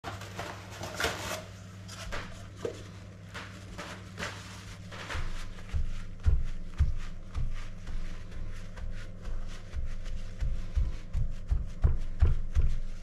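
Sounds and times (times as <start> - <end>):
paper towel rustling and dabbing: 0.0 - 13.0
steady low hum: 0.0 - 13.0.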